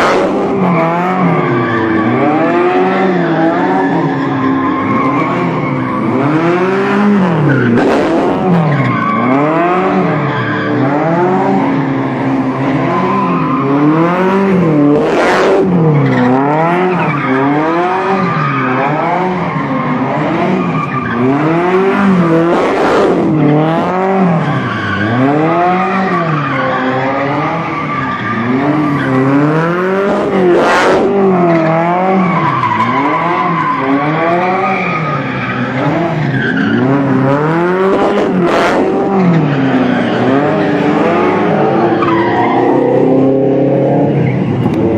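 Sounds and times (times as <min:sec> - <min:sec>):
car engine revving: 0:00.0 - 0:44.9
tyres skidding: 0:00.0 - 0:44.9.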